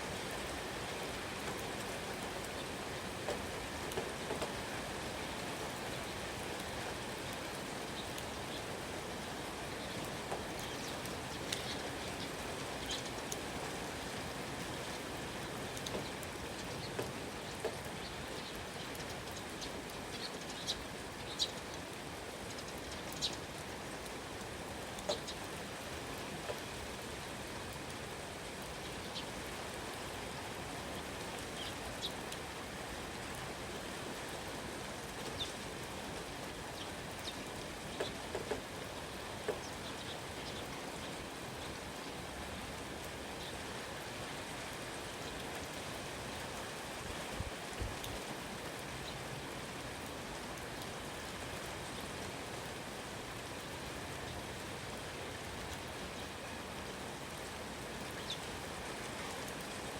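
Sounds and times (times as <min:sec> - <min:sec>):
sharp ticks of raindrops: 0:00.0 - 0:59.9
steady rain falling: 0:00.0 - 0:59.9.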